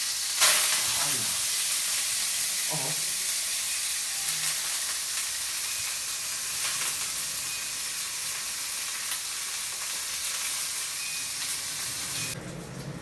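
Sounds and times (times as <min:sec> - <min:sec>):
fish sizzling in hot oil: 0:00.0 - 0:12.6.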